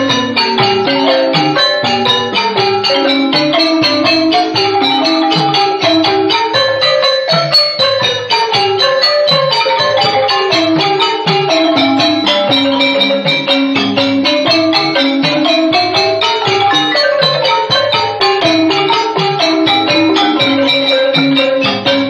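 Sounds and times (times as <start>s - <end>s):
drum strokes: 0.0s - 22.0s
xylophone melody: 0.0s - 22.0s.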